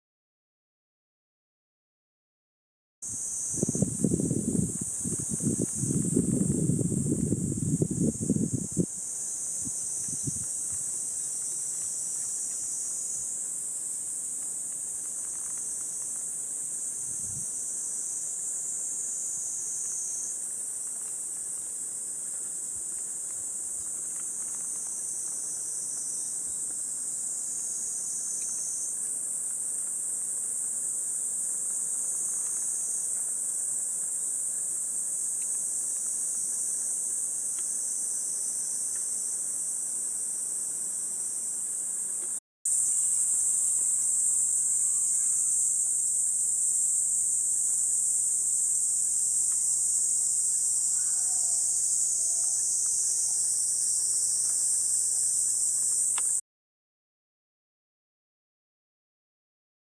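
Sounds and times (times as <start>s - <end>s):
cicadas droning: 3.0s - 56.4s.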